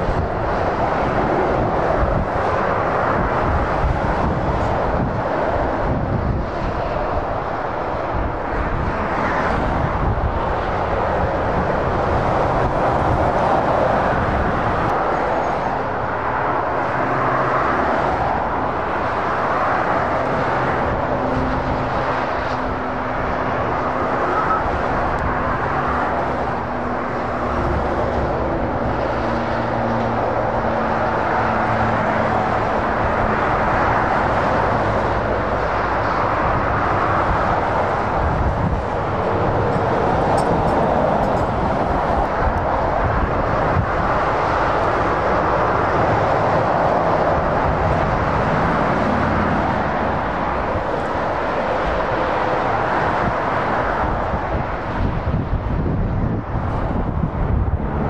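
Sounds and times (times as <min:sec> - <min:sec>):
diesel engines humming: 0:00.0 - 0:58.0
motorway traffic passing: 0:00.0 - 0:58.0.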